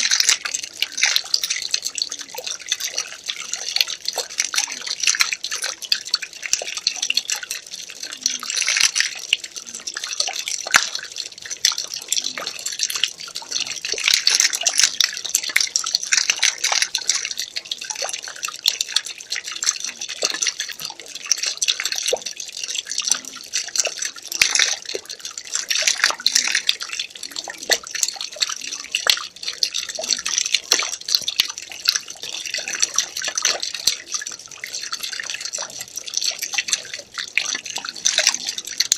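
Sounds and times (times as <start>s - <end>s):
water pouring and splashing: 0.0s - 38.9s.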